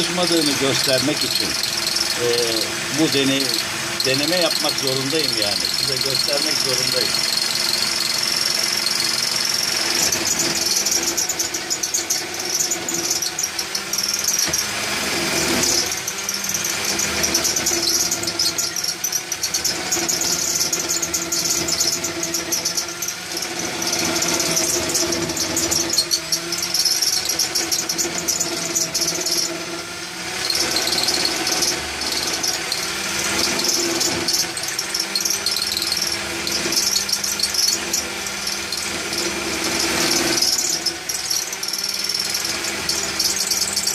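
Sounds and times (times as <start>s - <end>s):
drill motor running: 0.0s - 43.9s
turning tool cutting spinning wood: 0.0s - 43.9s.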